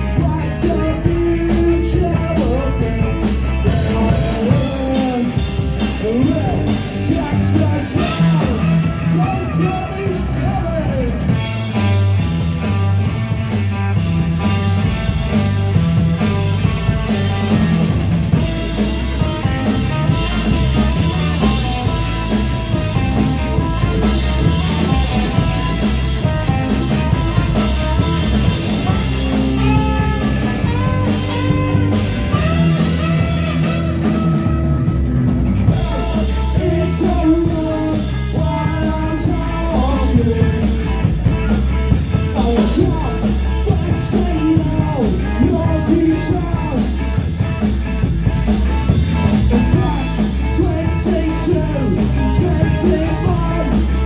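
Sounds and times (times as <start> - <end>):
person singing: 0.0 - 11.8, 18.4 - 34.9, 35.6 - 41.3, 42.2 - 47.0, 49.5 - 54.0
ska band playing: 0.0 - 54.0.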